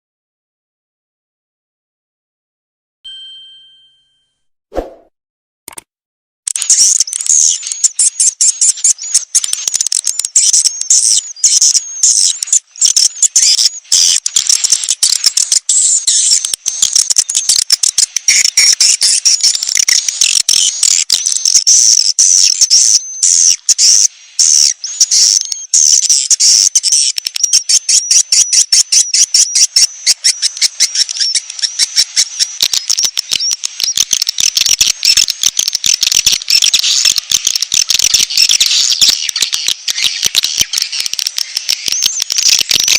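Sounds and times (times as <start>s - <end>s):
rapid high-pitched bird chirping: 6.5s - 42.9s.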